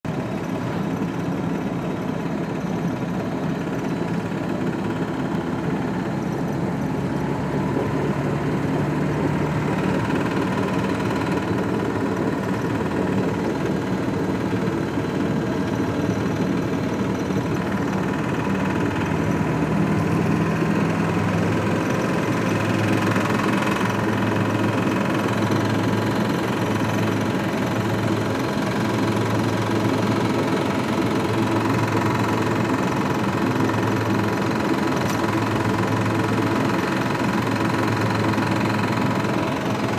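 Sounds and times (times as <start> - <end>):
engine knocking: 0.0 - 39.9
petrol engine running: 0.0 - 39.9.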